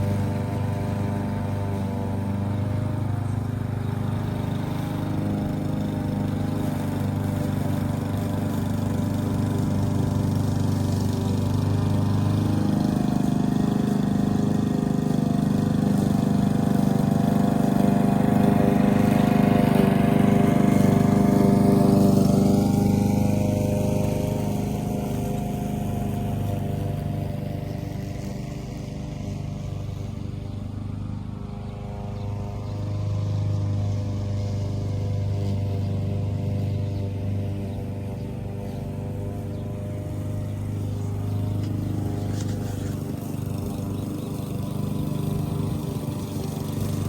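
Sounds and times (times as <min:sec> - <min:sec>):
lawn mower engine running: 0:00.0 - 0:47.0.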